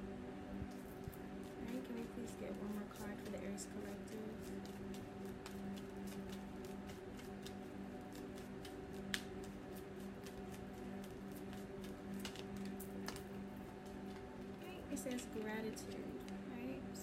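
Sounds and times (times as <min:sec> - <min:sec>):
cards shuffling: 0:00.7 - 0:15.4.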